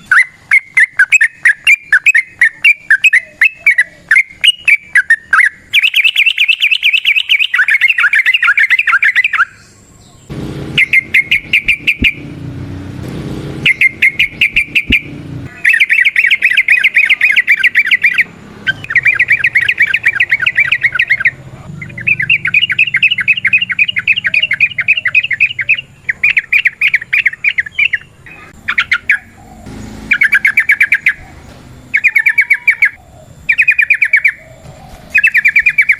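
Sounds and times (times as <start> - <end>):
bird chattering song: 0.0 - 12.3, 13.6 - 35.9.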